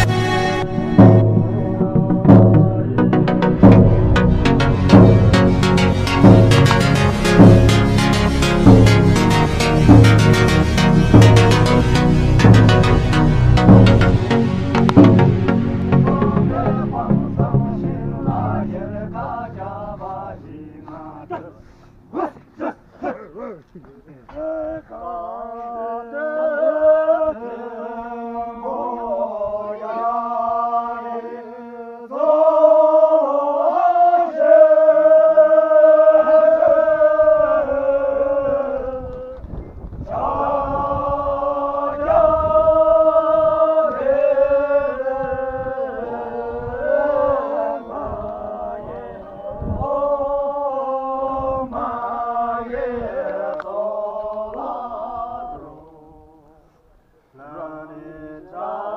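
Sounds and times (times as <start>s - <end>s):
voices chanting in held notes: 0.0s - 23.2s, 24.3s - 58.9s.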